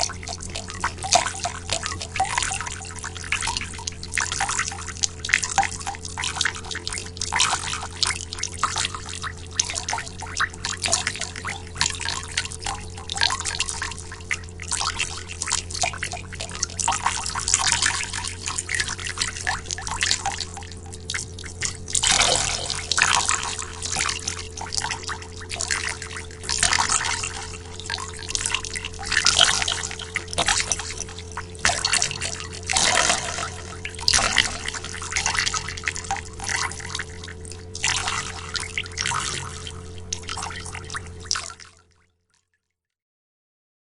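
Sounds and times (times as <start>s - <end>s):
faint steady hum: 0.0s - 41.9s
water dripping with echo: 0.0s - 41.9s.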